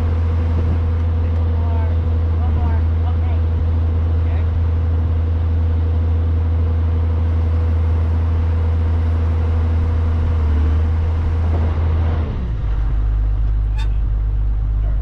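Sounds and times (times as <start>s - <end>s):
large engine humming: 0.0s - 15.0s.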